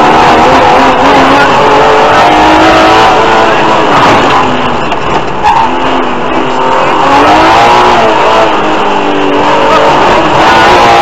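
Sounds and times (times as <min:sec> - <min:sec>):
car engine revving: 0:00.0 - 0:11.0
road and tyre noise: 0:00.0 - 0:11.0.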